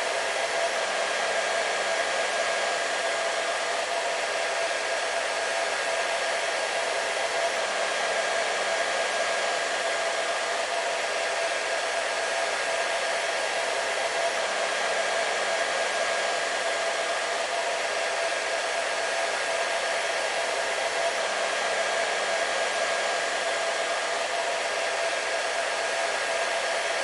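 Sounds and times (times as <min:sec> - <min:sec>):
hair dryer running: 0:00.0 - 0:27.0.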